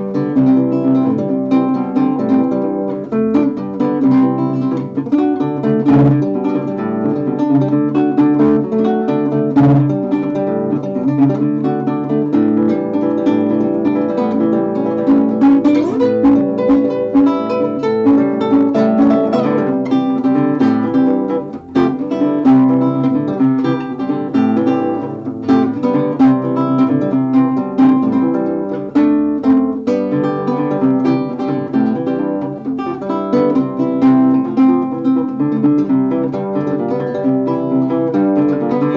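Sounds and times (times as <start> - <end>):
classical guitar playing: 0.0 - 38.9.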